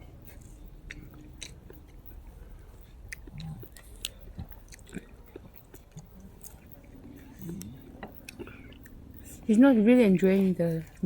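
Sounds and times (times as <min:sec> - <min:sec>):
wet chewing mouth clicks: 0:00.1 - 0:09.5.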